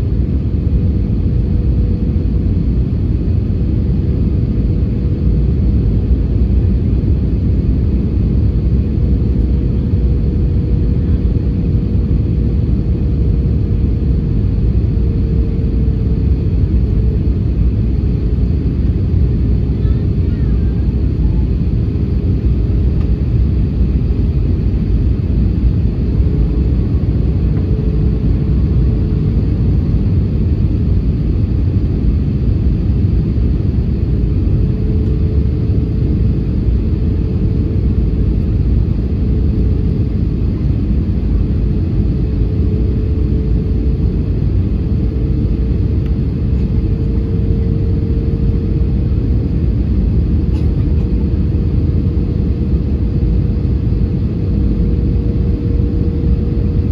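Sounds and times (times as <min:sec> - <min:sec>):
airliner cabin rumble: 0:00.0 - 0:56.9
faint hum: 0:00.0 - 0:56.9.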